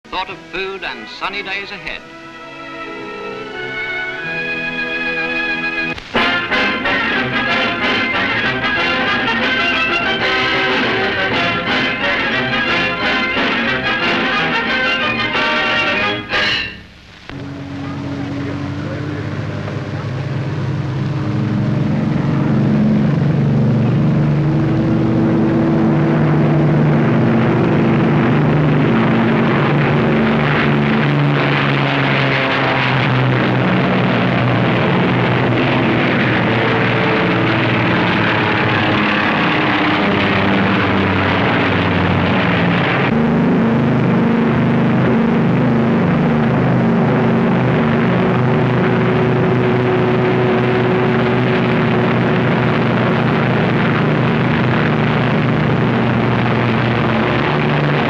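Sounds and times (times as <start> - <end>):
rushing noise: 0.0 - 58.0
speedboat engine drone: 0.0 - 58.0.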